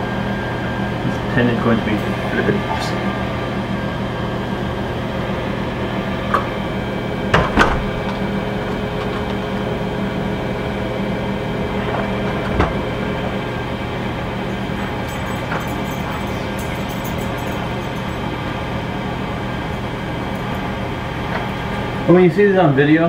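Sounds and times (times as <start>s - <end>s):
wood lathe motor hum: 0.0s - 22.3s.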